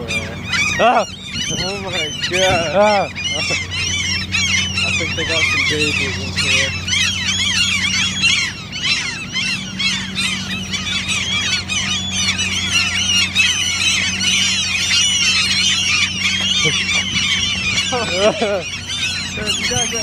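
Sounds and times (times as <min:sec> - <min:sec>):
gulls calling: 0:00.0 - 0:20.0.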